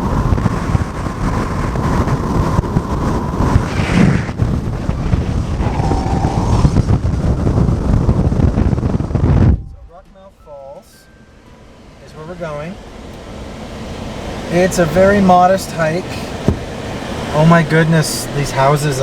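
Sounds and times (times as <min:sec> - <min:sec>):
wind buffeting microphone: 0:00.0 - 0:10.4, 0:12.8 - 0:19.0
moving car rush: 0:00.0 - 0:19.0.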